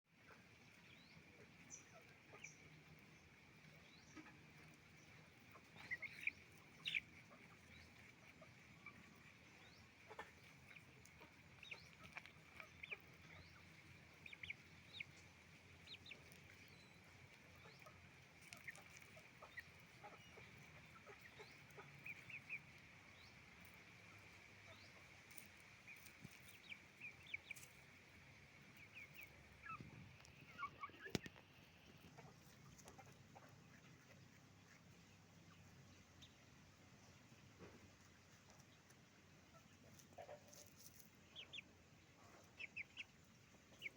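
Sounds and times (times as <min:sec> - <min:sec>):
hens clucking and calling: 0:00.1 - 0:43.9.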